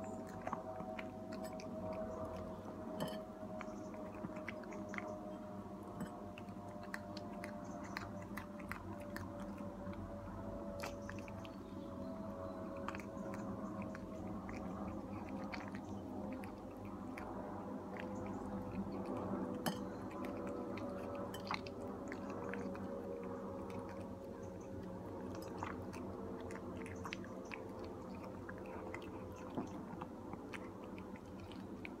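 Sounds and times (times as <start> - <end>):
cat chewing and lapping: 0.0 - 32.0.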